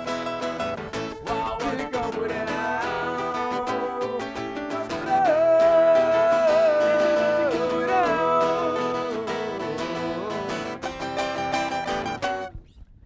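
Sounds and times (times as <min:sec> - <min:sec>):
held guitar lead note: 0:00.0 - 0:12.5.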